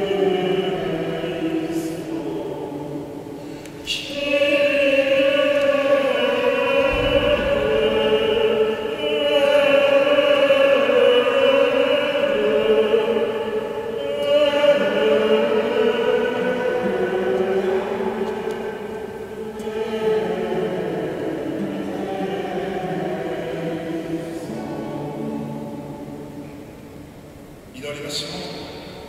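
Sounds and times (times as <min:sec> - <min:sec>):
choir singing a slow hymn: 0:00.0 - 0:29.0.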